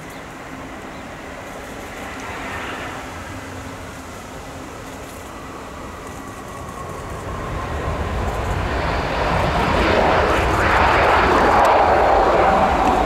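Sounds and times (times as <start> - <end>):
jet engine whine: 0.0 - 13.0
jet engines roaring: 0.0 - 13.0.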